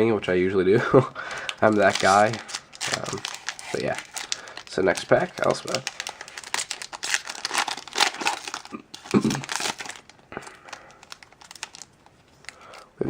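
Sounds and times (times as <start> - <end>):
foil wrapper crinkling: 1.2 - 12.9.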